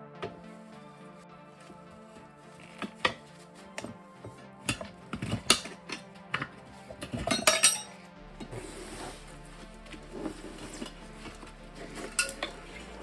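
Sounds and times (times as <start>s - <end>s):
background music: 0.0s - 13.0s
metal tools clanking on wheel: 2.0s - 13.0s.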